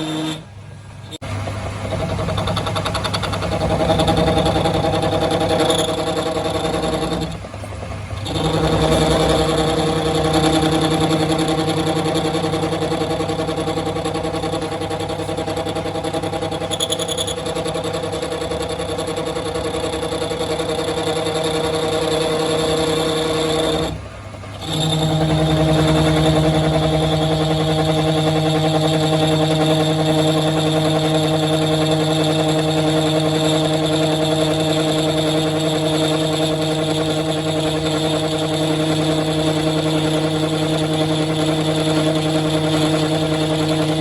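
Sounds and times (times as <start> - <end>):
workshop machine motor running: 0.0 - 44.0.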